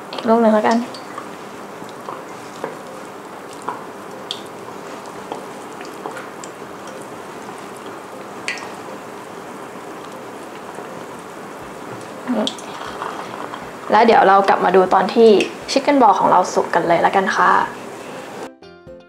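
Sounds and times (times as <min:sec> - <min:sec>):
deep-frying sizzle and pops: 0:00.0 - 0:17.6.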